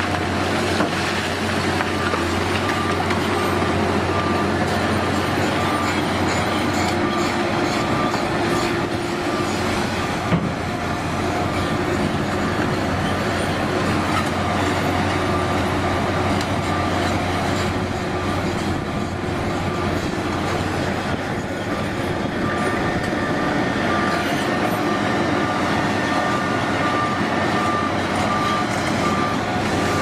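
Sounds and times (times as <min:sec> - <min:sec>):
excavator engine rumbling: 0:00.0 - 0:30.0.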